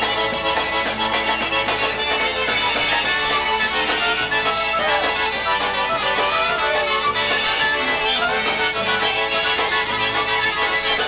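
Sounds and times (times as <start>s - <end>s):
accordion: 0.0s - 11.0s
fiddle: 0.0s - 11.0s
polka band playing: 0.0s - 11.0s.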